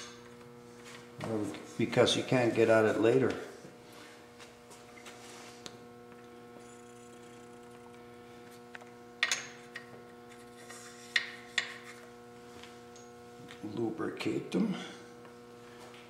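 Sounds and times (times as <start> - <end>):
mains hum: 0.0 - 16.0.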